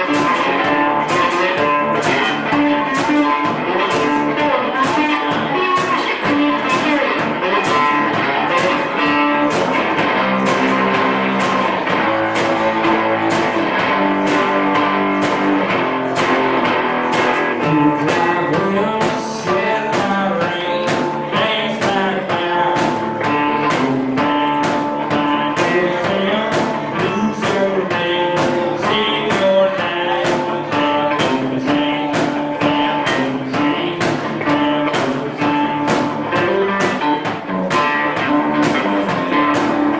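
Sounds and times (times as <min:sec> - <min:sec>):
blues guitar music: 0:00.0 - 0:39.9.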